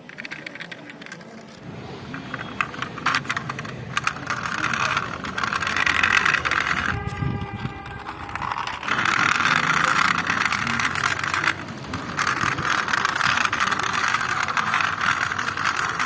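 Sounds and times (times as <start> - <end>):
plastic toys rattling and clicking: 0.0 - 16.0
rolling whir: 0.0 - 16.0.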